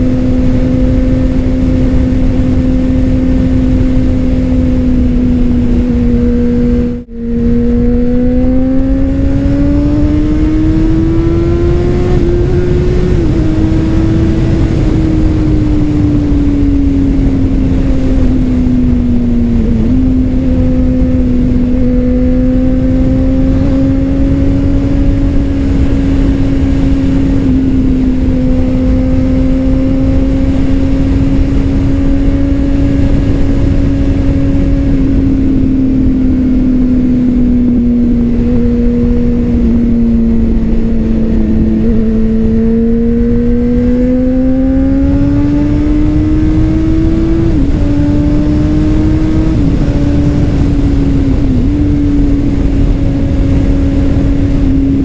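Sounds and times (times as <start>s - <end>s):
motorcycle engine running: 0.0s - 55.0s
wind noise: 0.0s - 55.0s.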